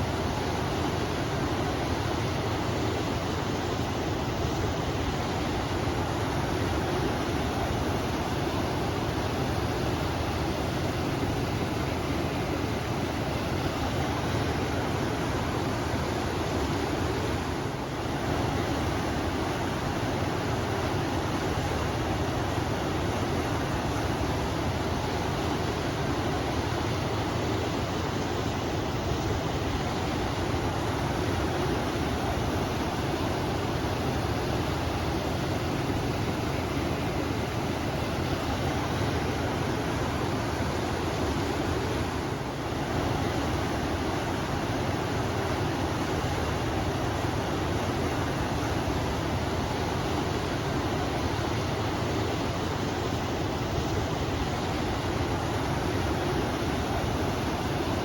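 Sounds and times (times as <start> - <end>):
river water rushing: 0.0 - 58.0
wind: 0.0 - 58.0.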